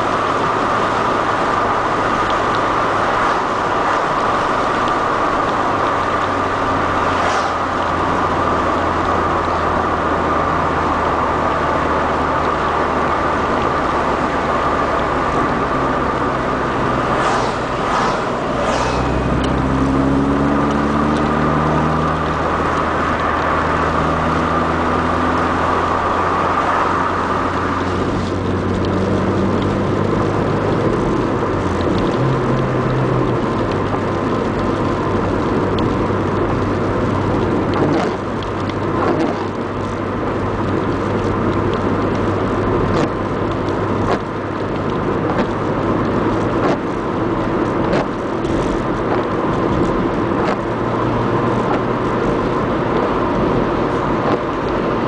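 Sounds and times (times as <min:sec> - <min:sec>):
car engine pulling: 0:00.0 - 0:55.0
tyre and road noise: 0:00.0 - 0:55.0.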